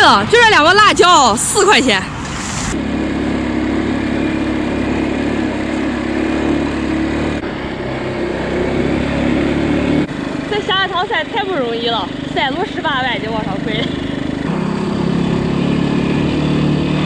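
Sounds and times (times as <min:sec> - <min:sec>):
small engine running: 0:01.6 - 0:17.0.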